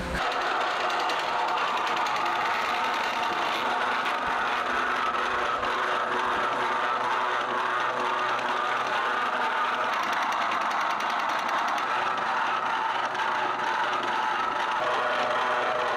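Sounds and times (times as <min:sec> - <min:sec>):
noodle machine whirring and rattling: 0:00.0 - 0:15.9.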